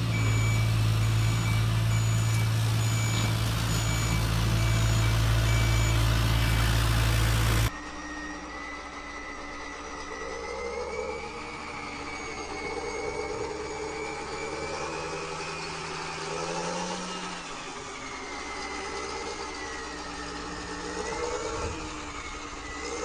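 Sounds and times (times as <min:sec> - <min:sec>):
toy truck motor whining: 0:00.0 - 0:23.0.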